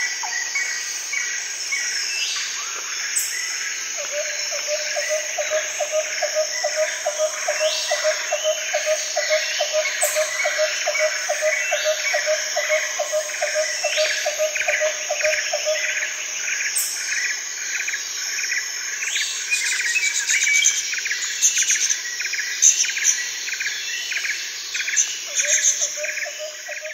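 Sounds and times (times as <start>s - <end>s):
insects chirping and trilling: 0.0s - 26.9s.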